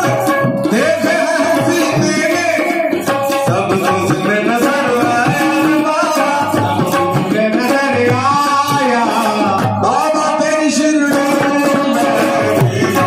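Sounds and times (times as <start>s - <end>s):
man singing into a microphone: 0.0s - 13.0s
tabla beat: 0.0s - 13.0s.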